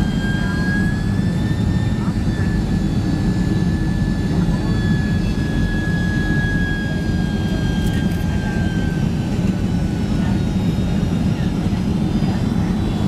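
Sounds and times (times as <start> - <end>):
jet engine and airflow rumble: 0.0 - 13.0.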